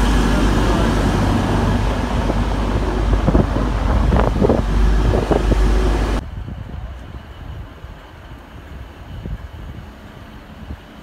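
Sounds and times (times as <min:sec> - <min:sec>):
train engine drone: 0:00.0 - 0:11.0
wind buffeting microphone: 0:00.0 - 0:11.0.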